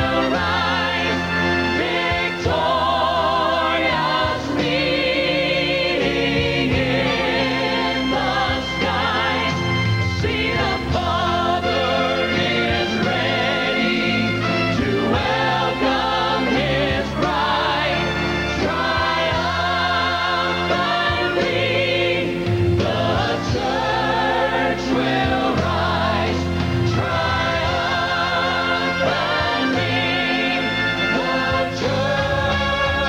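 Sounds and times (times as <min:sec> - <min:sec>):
gospel choir singing: 0:00.0 - 0:33.0
instrumental backing: 0:00.0 - 0:33.0.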